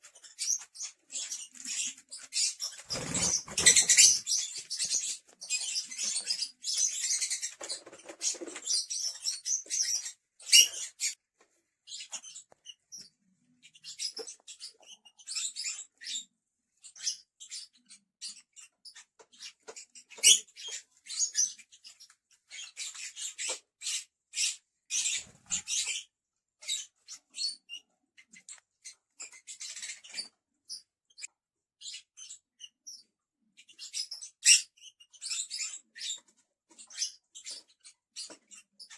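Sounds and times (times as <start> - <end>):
lovebirds chattering: 0.0 - 11.2, 11.9 - 38.9.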